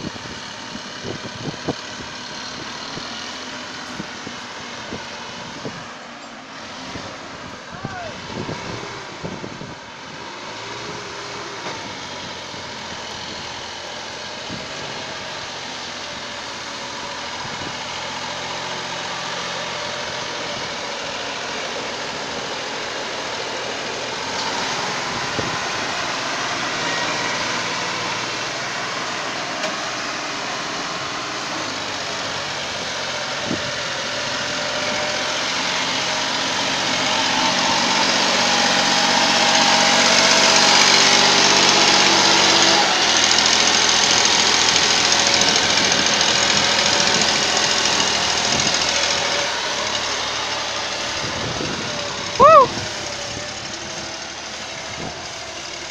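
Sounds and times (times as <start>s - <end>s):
diesel tractor engines straining: 0.0s - 55.9s.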